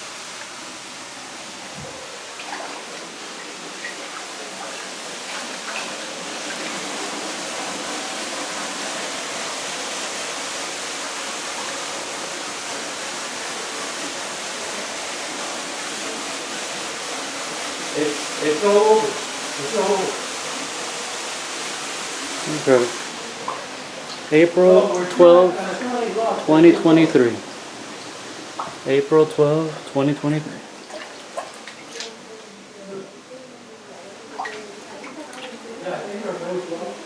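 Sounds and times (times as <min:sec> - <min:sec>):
floodwater rushing: 0:00.0 - 0:32.4.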